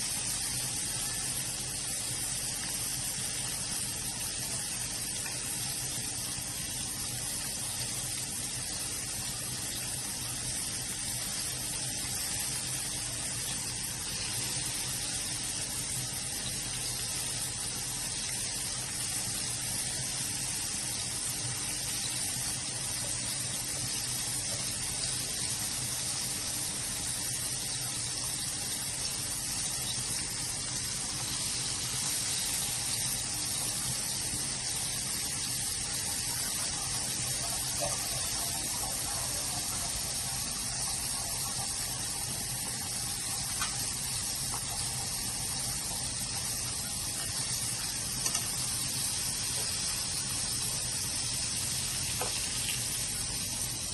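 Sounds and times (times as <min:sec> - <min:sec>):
chicken skin sizzling in oil: 0:00.0 - 0:53.9.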